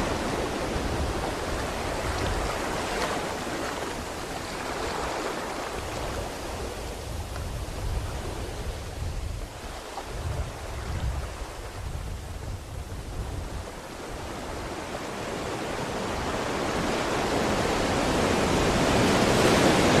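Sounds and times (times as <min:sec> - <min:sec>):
ocean waves breaking on shore: 0:00.0 - 0:20.0.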